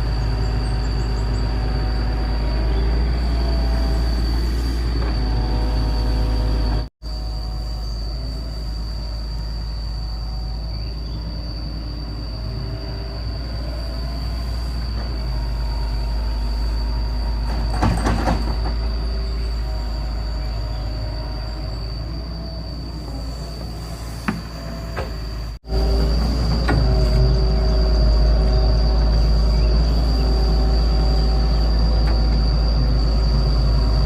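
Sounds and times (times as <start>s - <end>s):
excavator engine drone: 0.0s - 34.0s.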